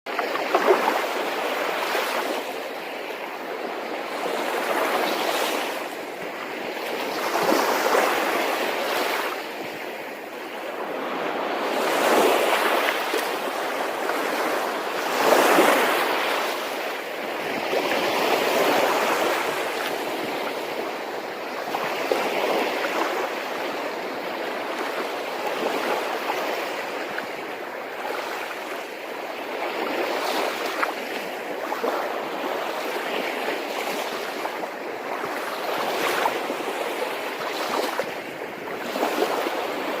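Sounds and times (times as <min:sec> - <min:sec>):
sea waves washing in: 0:00.2 - 0:40.0.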